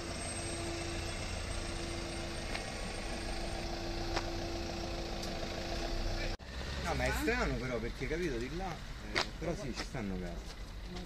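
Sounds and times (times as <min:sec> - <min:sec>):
van engine running at low speed: 0:00.0 - 0:11.0.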